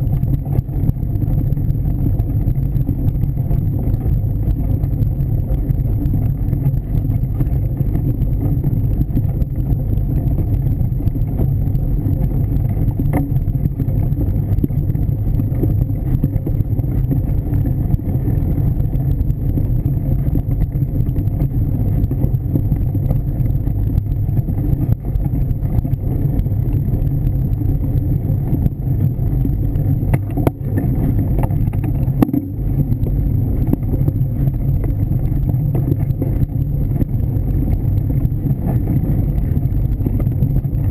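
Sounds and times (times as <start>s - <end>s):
bike tyre rumble: 0.0s - 40.9s
wind on microphone: 0.0s - 40.9s.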